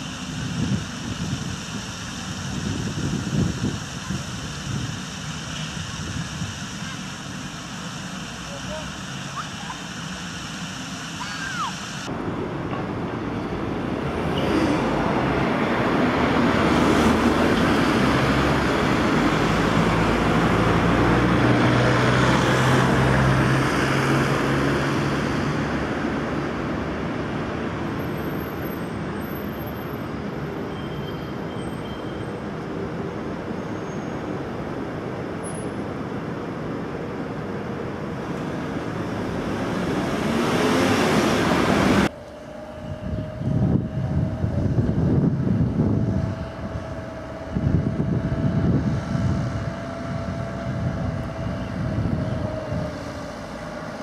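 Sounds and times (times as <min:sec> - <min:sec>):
vehicle engine hum and rushing: 0:00.0 - 0:54.0.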